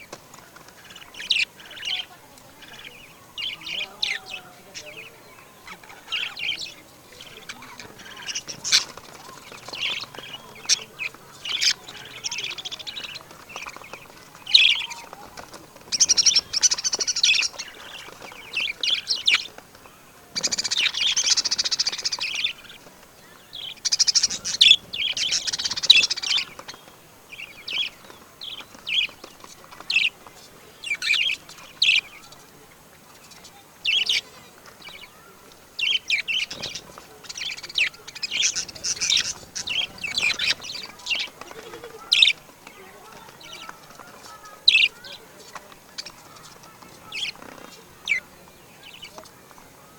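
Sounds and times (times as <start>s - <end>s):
birds chirping: 0.0s - 49.9s
harsh bird calls: 0.0s - 49.9s.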